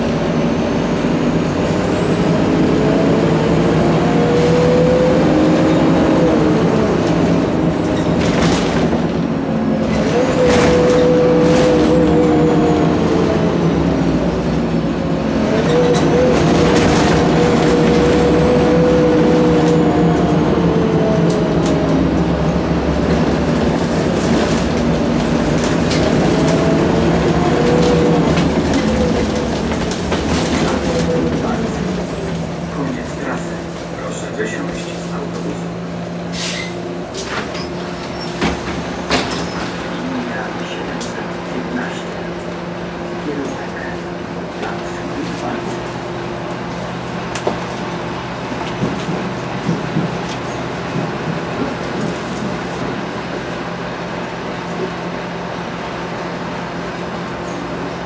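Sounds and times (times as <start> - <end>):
bus engine and gearbox whining: 0.0 - 58.0.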